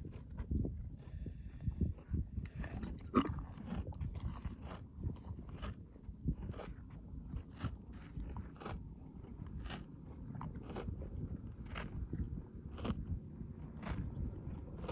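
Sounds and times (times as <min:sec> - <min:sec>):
camel chewing: 0:00.0 - 0:14.9.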